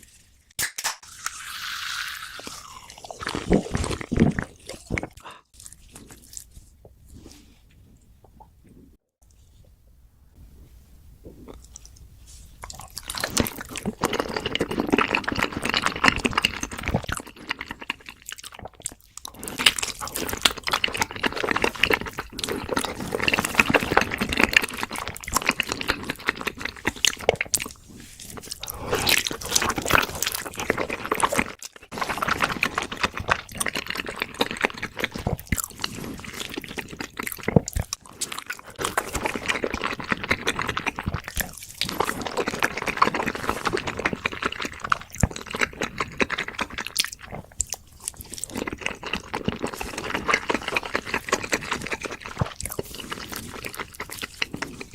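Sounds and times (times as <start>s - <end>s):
wet chewing and crunching: 1.1s - 8.9s, 11.2s - 54.9s.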